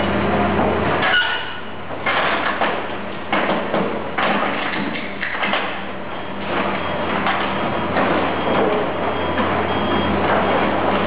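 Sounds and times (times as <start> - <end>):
machinery: 0.0 - 11.0
metal clattering and thuds: 2.0 - 11.0.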